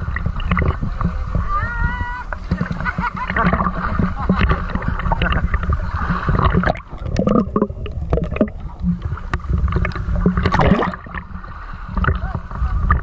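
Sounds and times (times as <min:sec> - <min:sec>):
seawater sloshing and lapping: 0:00.0 - 0:13.0
water splashes: 0:00.0 - 0:13.0.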